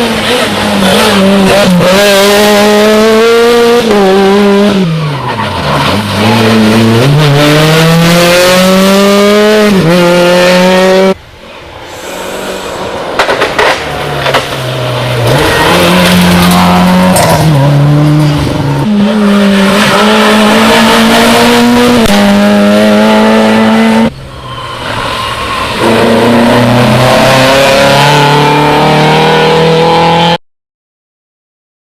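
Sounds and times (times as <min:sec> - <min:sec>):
rally car engine revving: 0:00.0 - 0:11.2, 0:12.3 - 0:24.1, 0:24.8 - 0:30.4.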